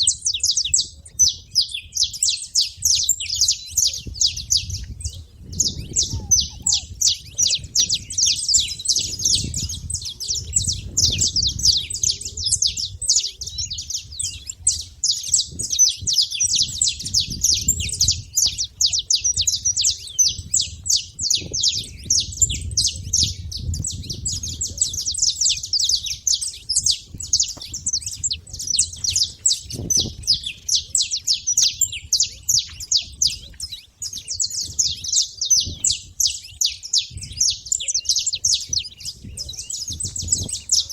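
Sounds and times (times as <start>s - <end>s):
finches chirping: 0.0s - 40.9s.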